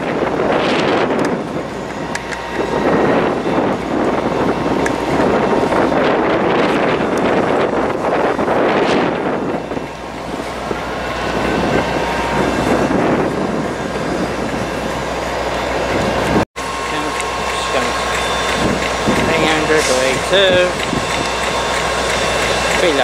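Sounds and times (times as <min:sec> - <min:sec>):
diesel locomotive idling: 0:00.0 - 0:23.0
train rushing past: 0:00.0 - 0:23.0.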